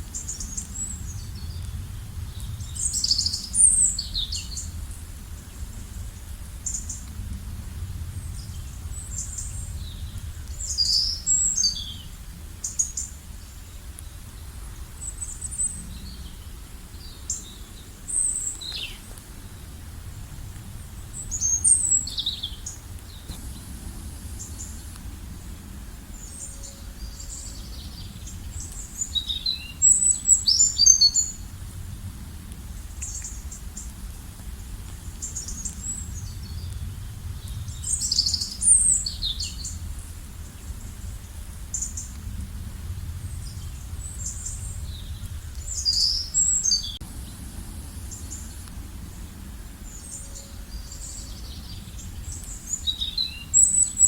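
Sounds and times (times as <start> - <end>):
steady low rumble: 0.0 - 54.0
small birds chirping: 0.1 - 7.2, 8.2 - 31.5, 34.7 - 42.4, 43.1 - 54.0.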